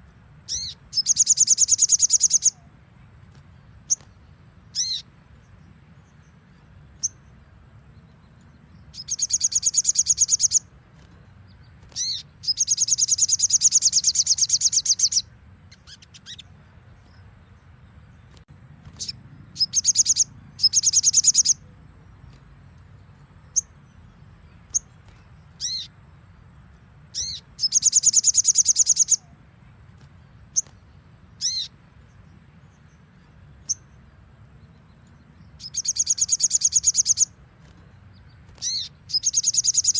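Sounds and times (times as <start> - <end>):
bird high-pitched trilling song: 0.0 - 2.7, 3.6 - 5.1, 6.0 - 7.4, 8.0 - 10.7, 11.5 - 17.3, 18.2 - 22.4, 23.4 - 26.0, 27.1 - 29.4, 30.2 - 39.9.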